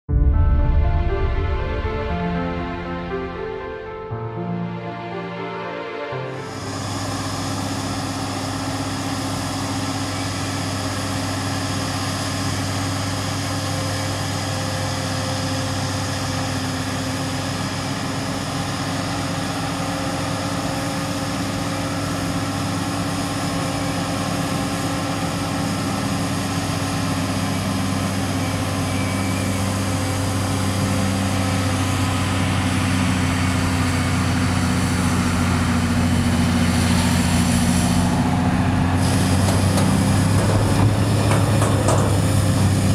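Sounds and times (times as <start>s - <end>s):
forage harvester droning: 6.1s - 42.9s
tractor engine: 6.4s - 42.9s.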